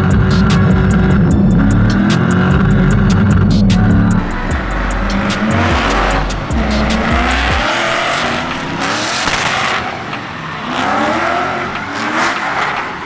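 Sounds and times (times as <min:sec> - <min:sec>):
car engine revving: 0:00.0 - 0:13.0
tyres squealing and skidding: 0:00.0 - 0:13.0.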